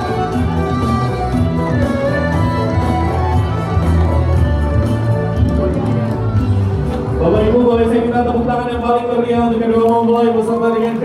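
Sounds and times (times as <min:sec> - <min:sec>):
traditional dance music: 0:00.0 - 0:11.0.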